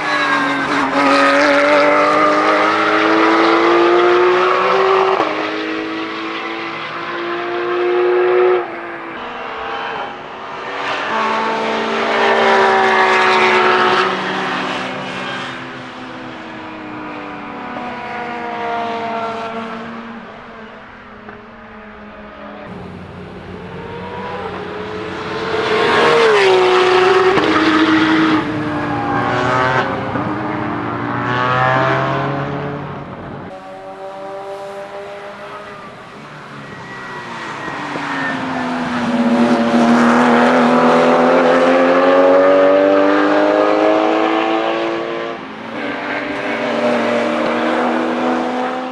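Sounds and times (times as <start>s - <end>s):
race cars passing at full throttle: 0.0s - 48.9s.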